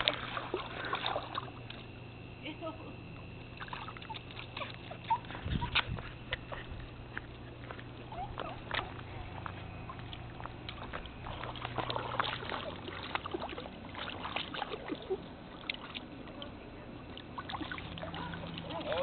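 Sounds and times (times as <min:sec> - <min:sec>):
pool water sloshing and splashing: 0:00.0 - 0:02.4, 0:03.0 - 0:07.4, 0:08.0 - 0:19.0
steady low hum: 0:00.0 - 0:19.0.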